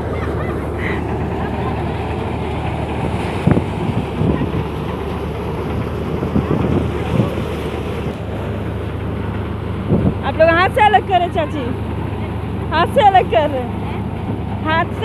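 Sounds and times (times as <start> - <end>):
thresher engine droning: 0.0 - 15.0.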